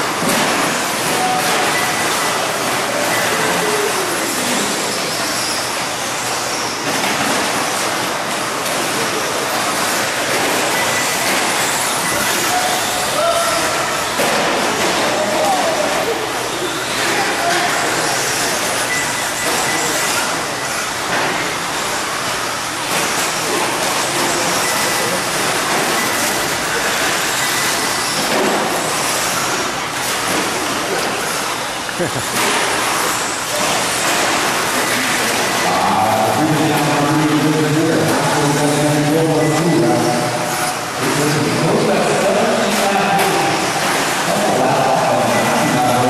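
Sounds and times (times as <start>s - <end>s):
rc trucks racing on dirt: 0.0s - 21.4s, 22.9s - 31.5s, 32.3s - 46.0s.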